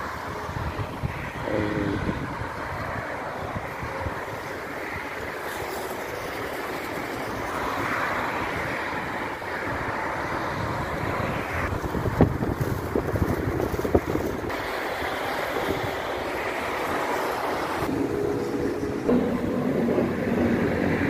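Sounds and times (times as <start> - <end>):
city traffic: 0.0 - 21.0
wind buffeting microphone: 0.0 - 21.0.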